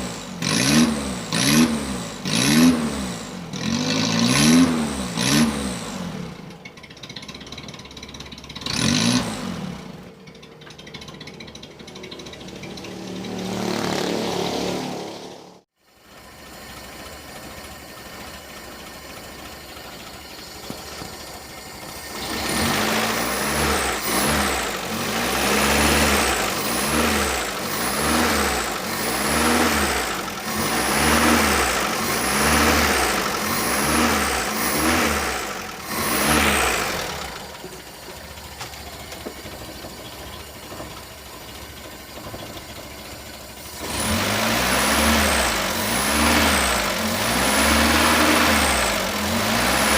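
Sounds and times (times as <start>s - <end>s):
petrol engine idling and revving: 0.0s - 49.9s.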